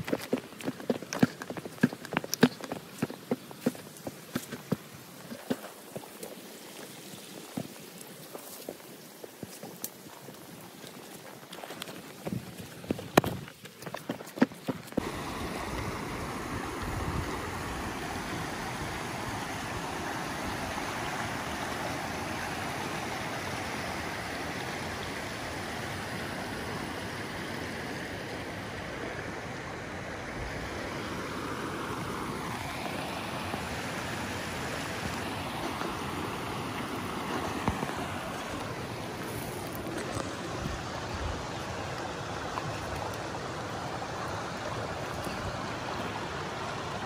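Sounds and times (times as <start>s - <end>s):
stream running over rocks: 0.0s - 47.0s.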